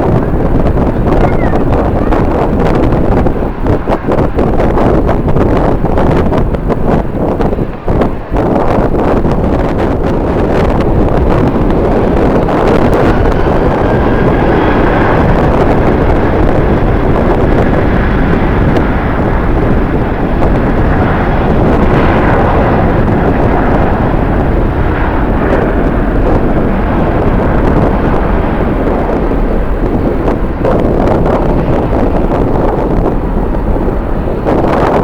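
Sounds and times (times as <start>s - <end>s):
jet engines running: 0.0s - 35.0s
wind buffeting microphone: 0.0s - 35.0s.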